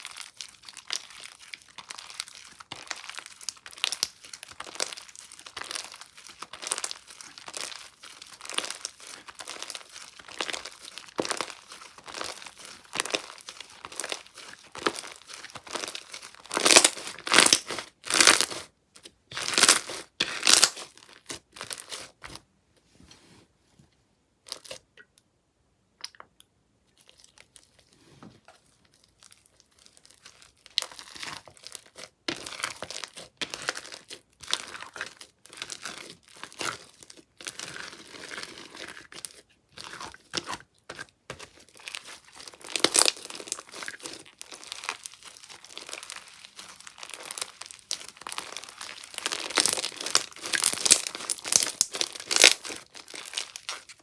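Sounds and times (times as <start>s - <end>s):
slime crackling and crunching: 0.0s - 22.4s, 28.6s - 54.0s.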